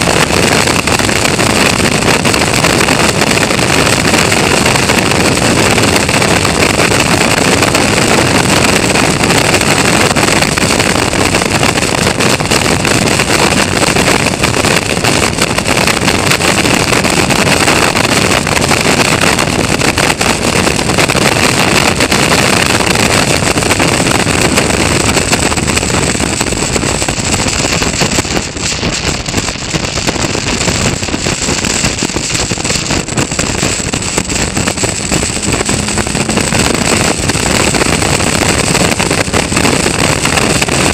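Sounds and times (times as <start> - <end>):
race car engine running hard: 0.0 - 40.9
wind noise on microphone: 0.0 - 40.9.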